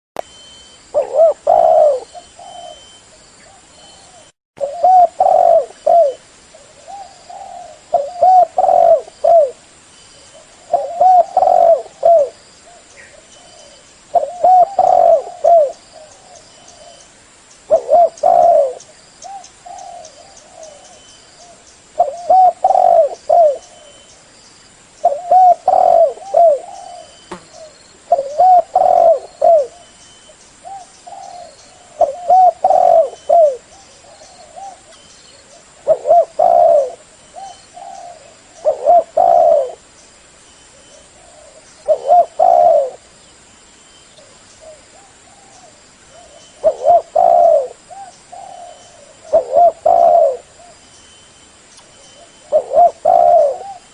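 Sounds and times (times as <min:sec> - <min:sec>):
dove cooing: 0:00.9 - 0:09.6, 0:10.4 - 0:17.0, 0:17.7 - 0:24.0, 0:25.0 - 0:29.9, 0:30.6 - 0:39.9, 0:40.7 - 0:43.0, 0:44.2 - 0:50.8, 0:52.2 - 0:53.9.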